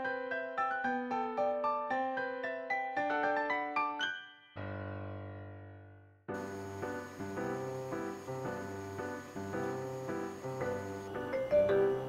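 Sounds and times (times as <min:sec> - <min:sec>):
piano-like keyboard music: 0:00.0 - 0:12.0.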